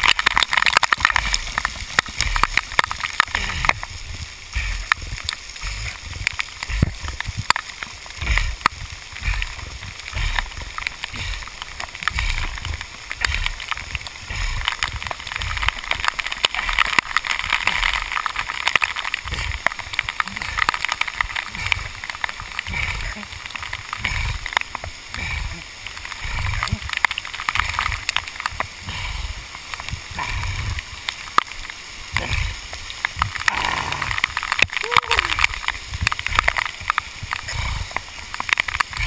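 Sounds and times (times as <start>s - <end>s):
waterfall splashing onto camera: 0.0s - 39.0s.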